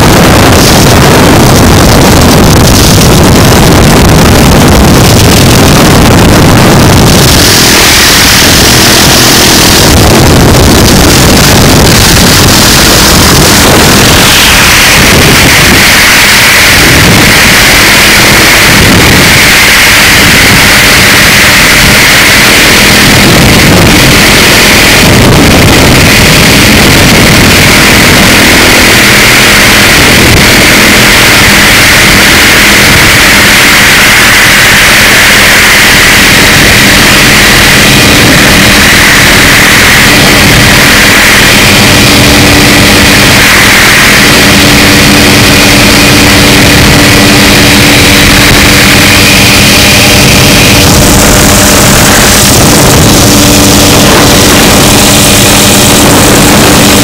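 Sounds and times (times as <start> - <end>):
helicopter engine and rotor noise: 0.0 - 57.0.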